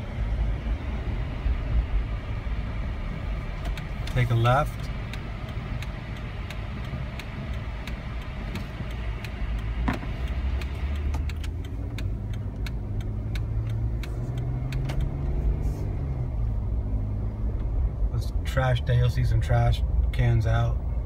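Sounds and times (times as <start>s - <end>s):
car engine and road rumble: 0.0s - 21.0s
turn signal ticking: 0.0s - 21.0s.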